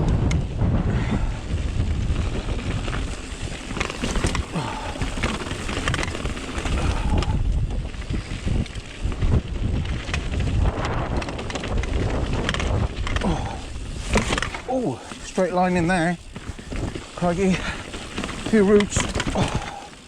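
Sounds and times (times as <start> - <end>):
wind buffeting microphone: 0.0 - 20.0
mountain bike rattling over rocks: 0.1 - 20.0.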